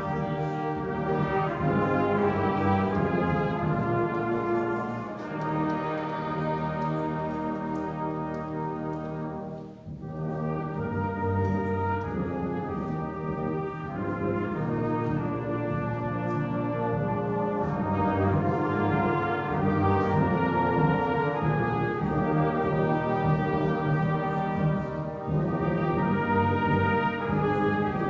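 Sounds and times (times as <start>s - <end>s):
brass band playing slow chords: 0.0s - 28.0s.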